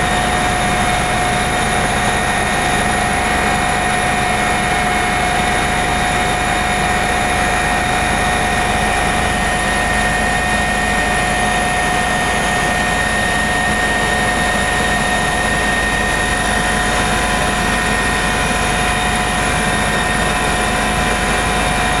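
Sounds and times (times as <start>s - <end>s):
helicopter rotor and engine: 0.0s - 22.0s
high turbine whine: 0.0s - 22.0s.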